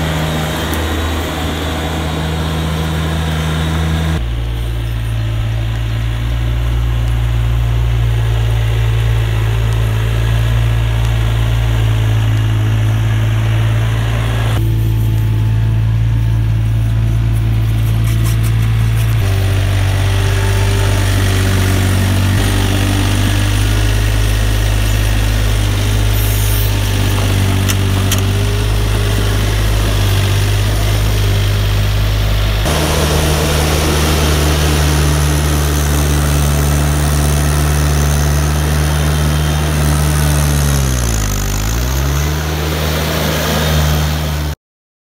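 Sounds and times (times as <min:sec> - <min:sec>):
loader engine running: 0:00.0 - 0:44.6.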